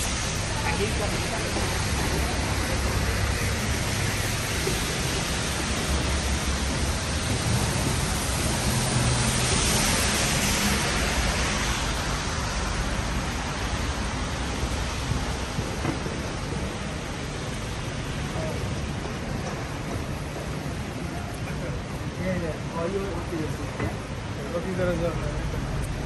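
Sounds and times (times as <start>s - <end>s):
falling rain: 0.0s - 26.0s
low engine rumble: 0.0s - 26.0s
tyres hissing on wet road: 0.0s - 26.0s.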